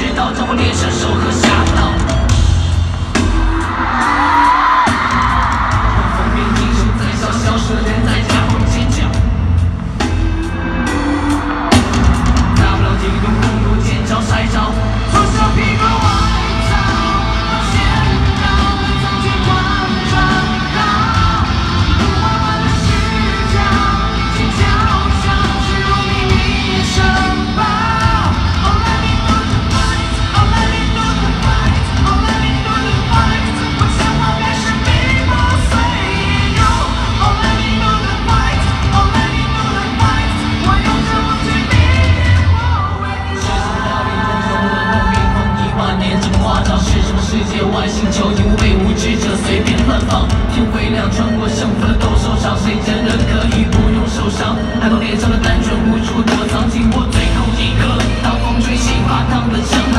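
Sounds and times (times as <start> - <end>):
crowd singing and yelling: 0.0 - 59.9
loud rock-pop band music: 0.0 - 59.9.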